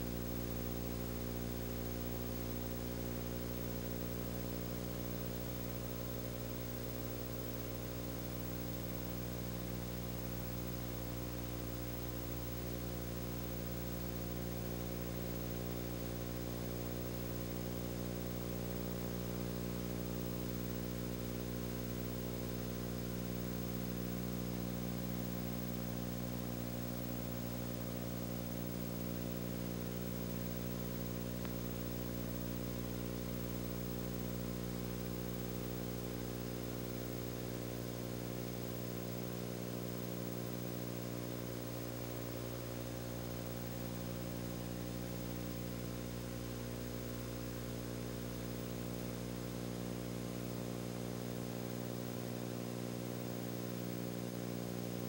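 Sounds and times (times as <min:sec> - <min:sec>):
electrical hum and buzz: 0:00.0 - 0:55.0.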